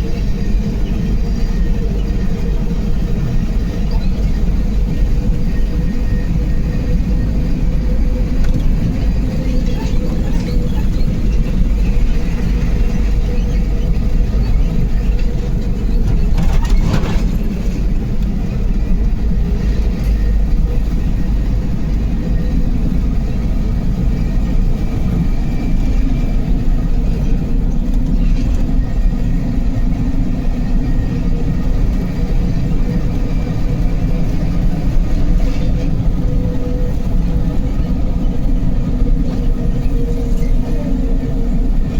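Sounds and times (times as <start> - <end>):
road rumble: 0.0 - 41.9
truck engine droning: 0.0 - 41.9.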